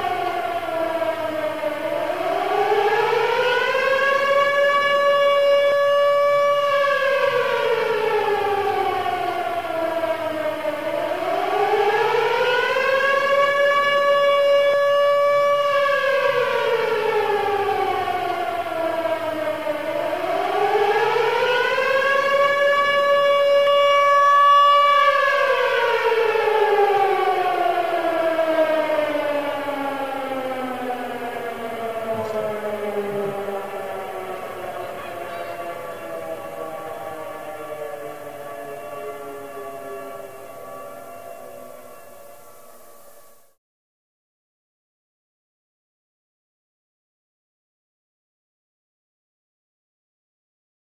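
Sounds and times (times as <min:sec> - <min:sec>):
siren rising and falling wail: 0:00.0 - 0:43.6.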